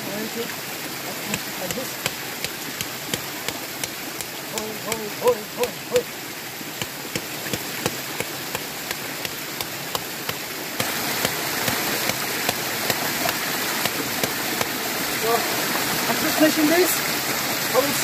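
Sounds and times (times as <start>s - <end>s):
running stream water: 0.0s - 18.0s.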